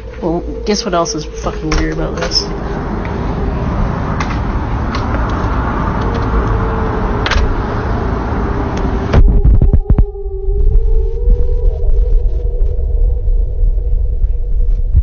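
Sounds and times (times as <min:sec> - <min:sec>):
loud low thumps: 0:00.0 - 0:15.0
outdoor noise: 0:00.0 - 0:15.0.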